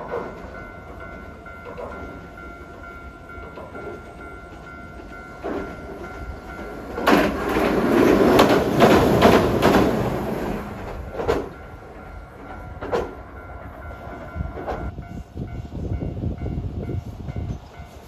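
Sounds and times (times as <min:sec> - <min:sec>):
tram wheels clacking over rail joints: 0:00.0 - 0:15.0.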